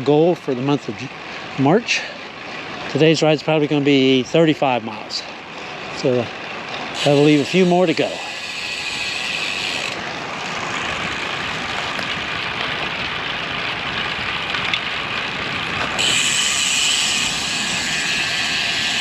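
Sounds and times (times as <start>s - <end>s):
bike road noise: 0.0s - 19.0s.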